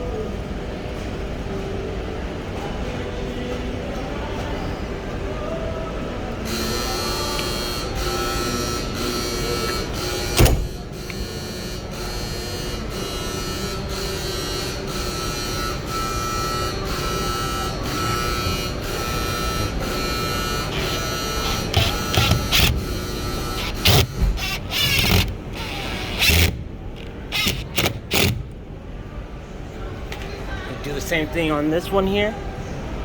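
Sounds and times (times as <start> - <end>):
steady motor hum: 0.0 - 30.0.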